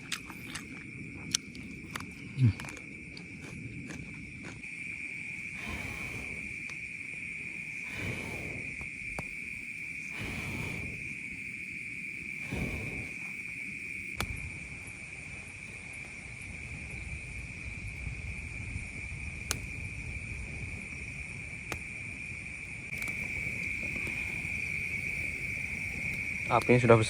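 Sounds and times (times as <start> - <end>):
night insects chorus: 0.0 - 27.0.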